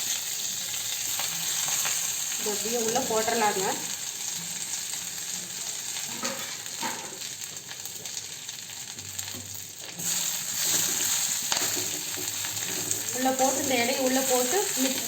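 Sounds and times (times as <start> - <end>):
leaves sizzling in hot oil: 0.0 - 15.0.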